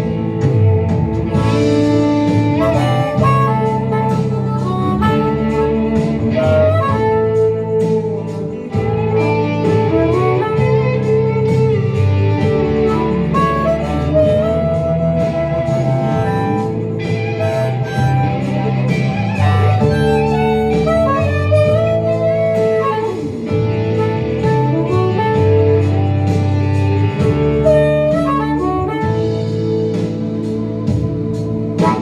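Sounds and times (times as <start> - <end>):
guitar: 0.0 - 32.0
steady drum beat: 0.0 - 32.0
harmonica solo: 1.3 - 32.0.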